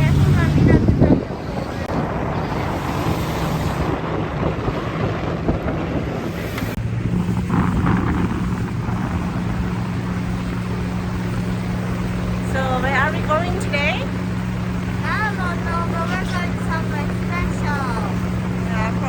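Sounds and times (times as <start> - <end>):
boat motor humming: 0.0 - 19.0
rushing water: 0.0 - 19.0
wind buffeting microphone: 0.0 - 19.0.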